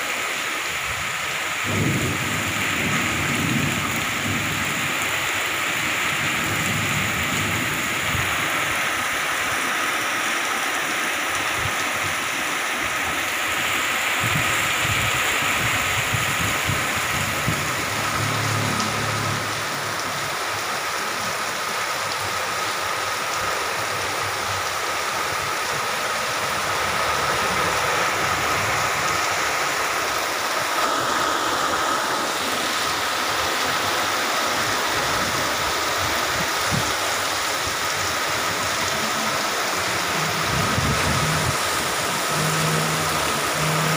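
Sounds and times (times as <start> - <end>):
heavy rain downpour: 0.0 - 43.9.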